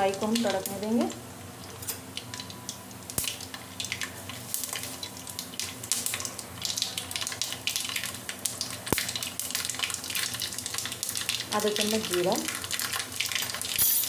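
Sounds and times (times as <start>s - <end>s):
seeds popping in hot oil: 0.0s - 1.2s, 2.1s - 14.0s.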